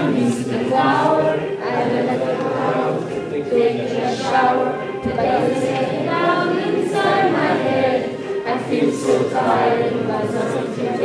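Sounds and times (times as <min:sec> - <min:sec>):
group singing: 0:00.0 - 0:11.0
people talking: 0:00.0 - 0:11.0.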